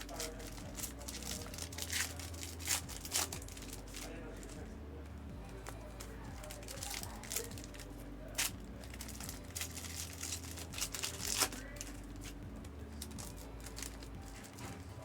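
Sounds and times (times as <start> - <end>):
foil wrappers crinkling and tearing: 0.0 - 4.8, 5.5 - 15.0.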